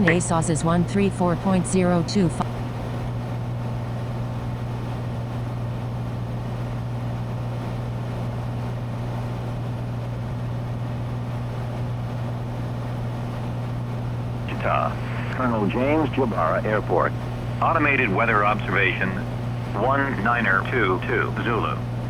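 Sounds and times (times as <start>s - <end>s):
airplane engine and propeller drone: 0.0s - 22.0s.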